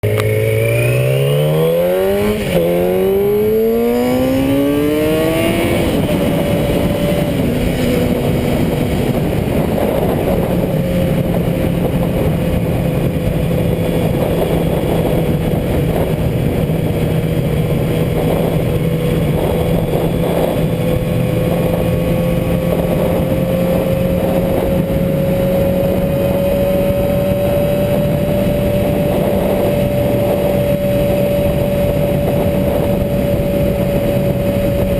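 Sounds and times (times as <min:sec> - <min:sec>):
motorcycle engine revving: 0:00.0 - 0:34.9
wind and road noise: 0:00.0 - 0:34.9.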